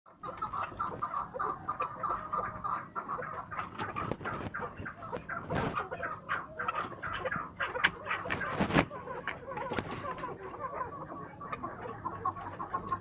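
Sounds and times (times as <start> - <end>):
partridge calls: 0.1 - 13.0.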